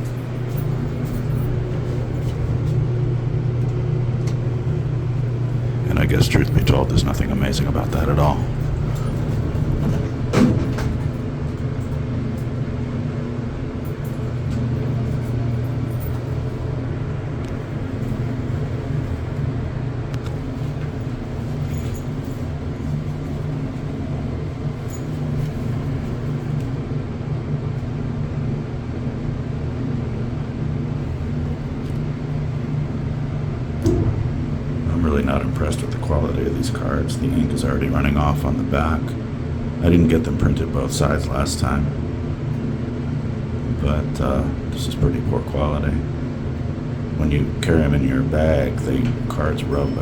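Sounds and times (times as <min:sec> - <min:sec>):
machinery rumble and hum: 0:00.0 - 0:50.0.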